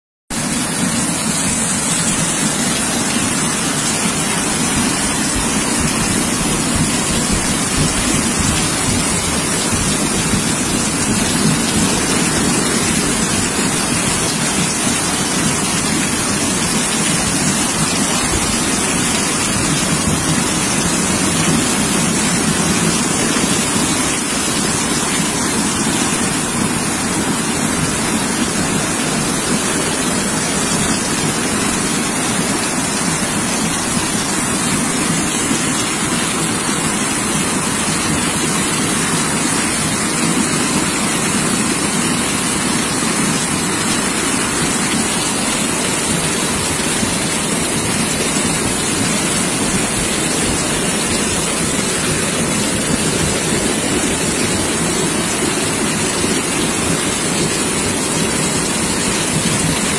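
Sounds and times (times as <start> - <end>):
floodwater rushing: 0.3 - 59.9
torrential rain: 0.3 - 59.9.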